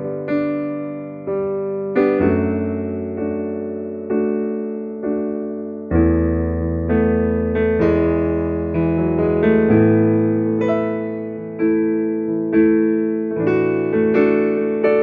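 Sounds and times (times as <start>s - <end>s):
piano chords over bass notes: 0.0s - 15.0s.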